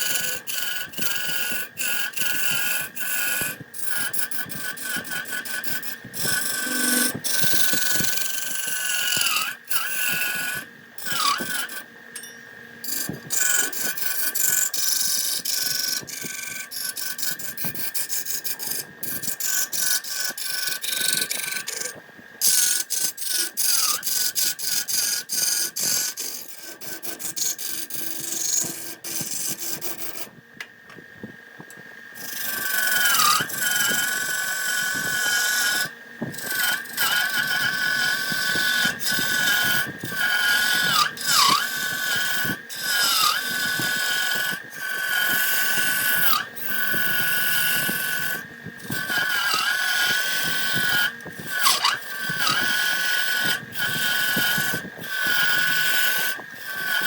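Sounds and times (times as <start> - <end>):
power tool whining into wood: 0.0 - 31.0, 31.6 - 57.0.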